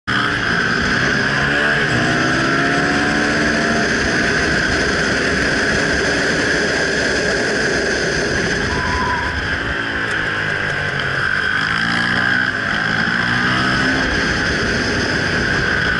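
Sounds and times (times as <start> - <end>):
motorcycle engine running: 0.1 - 15.9
wind noise: 0.2 - 15.9.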